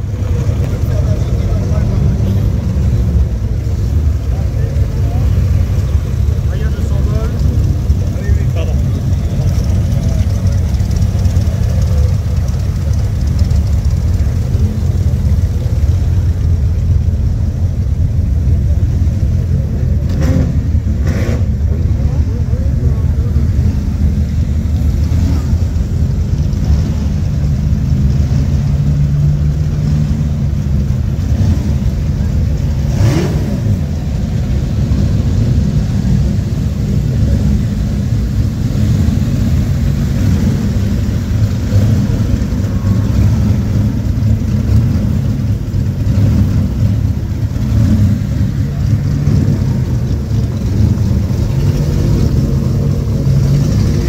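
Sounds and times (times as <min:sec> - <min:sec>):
racing car engines idling: 0:00.0 - 0:54.0.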